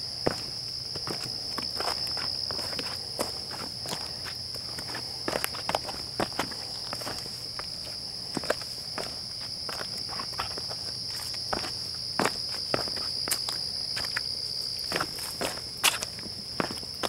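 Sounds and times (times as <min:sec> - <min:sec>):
footsteps on rocky dirt trail: 0:00.0 - 0:17.0
night insects chorus: 0:00.0 - 0:17.0.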